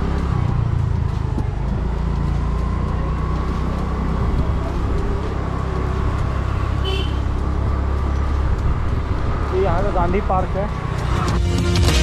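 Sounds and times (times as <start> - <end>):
wind rumble: 0.0 - 11.4
road noise: 0.0 - 12.0.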